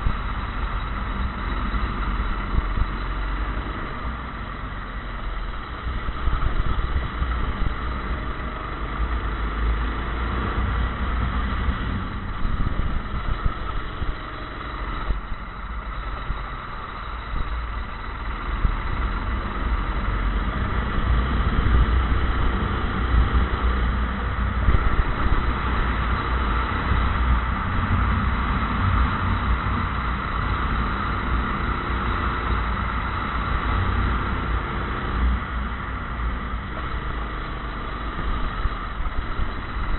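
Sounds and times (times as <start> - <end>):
gusty low rumble: 0.0 - 39.9
racing kart engine: 0.0 - 39.9.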